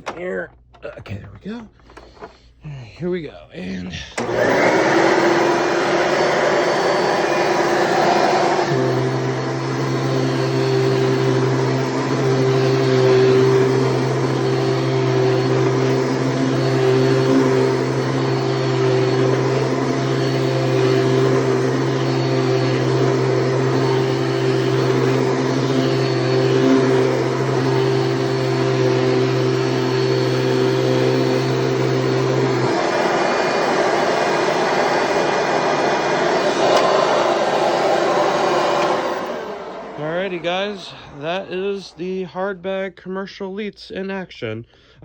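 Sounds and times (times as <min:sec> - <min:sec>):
vacuum cleaner running: 0:04.2 - 0:42.2.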